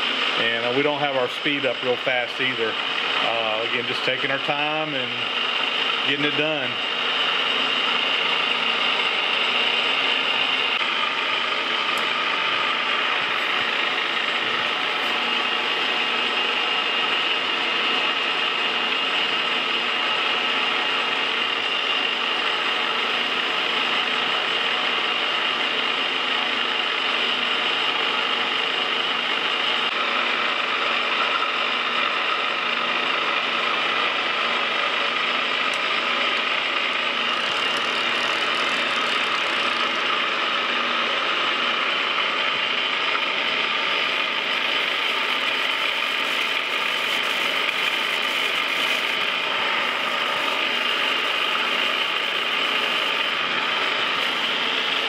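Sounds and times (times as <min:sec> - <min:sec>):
metal lathe running: 0:00.0 - 0:55.0.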